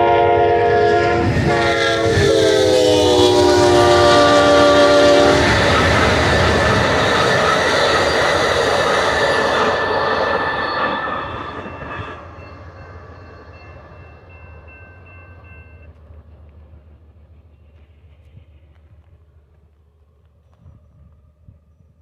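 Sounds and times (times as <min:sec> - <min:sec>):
passenger train rushing past: 0:00.0 - 0:21.6.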